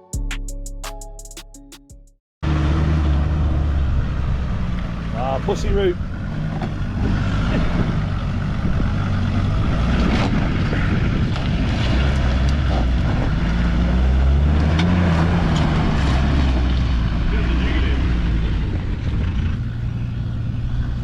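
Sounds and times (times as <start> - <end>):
vehicle engine running: 2.4 - 21.0.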